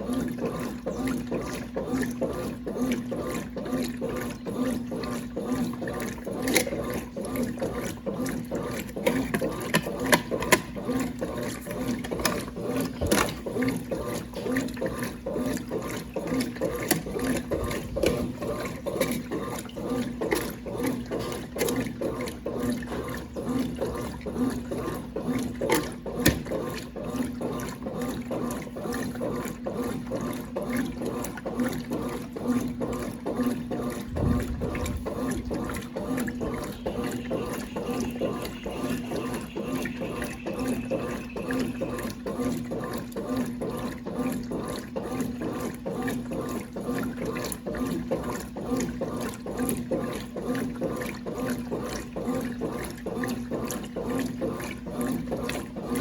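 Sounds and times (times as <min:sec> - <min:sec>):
washing machine running: 0:00.0 - 0:56.0
water sloshing in tub: 0:00.0 - 0:56.0.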